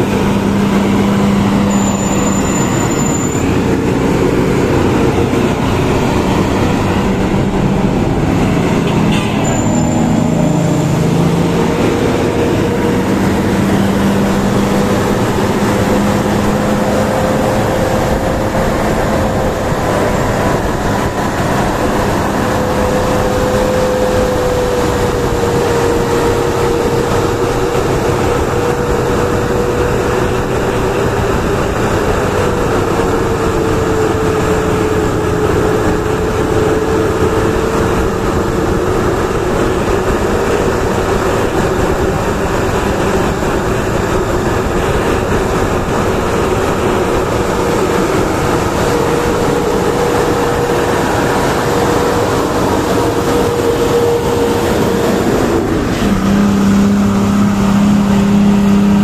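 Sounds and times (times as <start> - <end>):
heavy vehicle engine drone: 0.0 - 59.0
road noise: 0.0 - 59.0.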